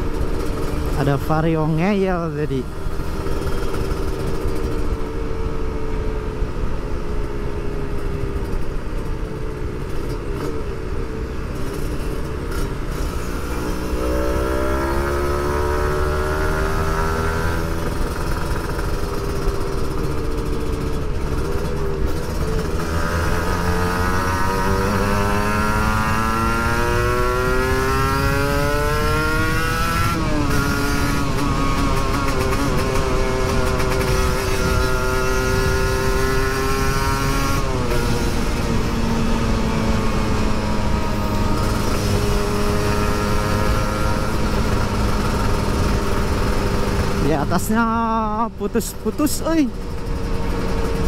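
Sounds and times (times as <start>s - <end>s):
motorcycle engine revving: 0.0s - 51.0s
road rumble: 0.0s - 51.0s
wind: 0.0s - 51.0s.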